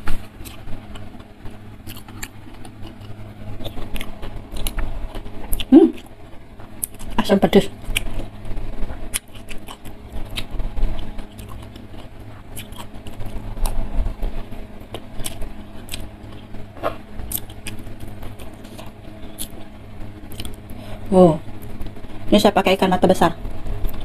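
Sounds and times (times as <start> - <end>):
chewing and mouth sounds: 0.1 - 20.8.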